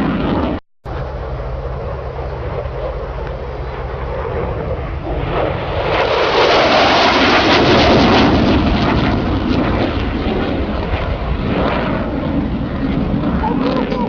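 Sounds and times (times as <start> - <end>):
jet aircraft roar: 0.0 - 14.0.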